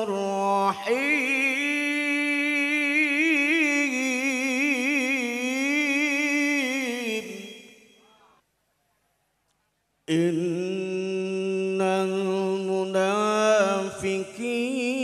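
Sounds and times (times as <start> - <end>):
man chanting into a microphone: 0.0 - 8.4, 10.1 - 15.0.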